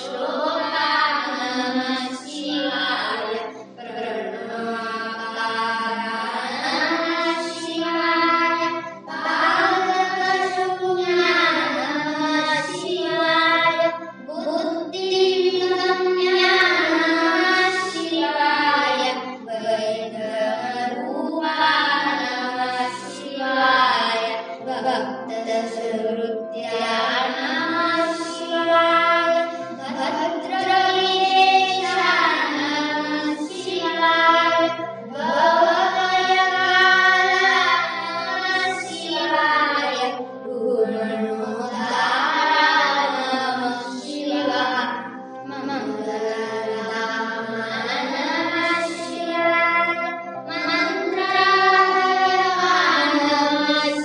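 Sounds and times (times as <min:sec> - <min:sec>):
boys singing into a microphone: 0:00.0 - 0:54.0.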